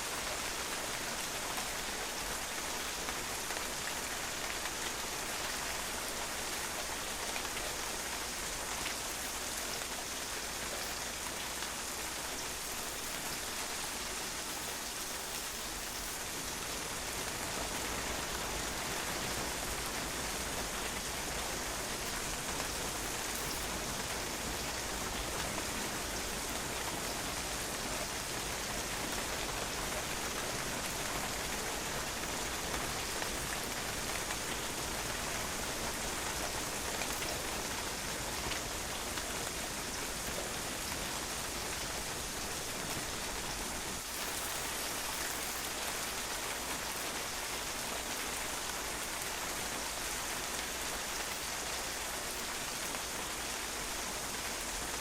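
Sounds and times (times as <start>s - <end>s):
rain on a patio: 0.0s - 55.0s.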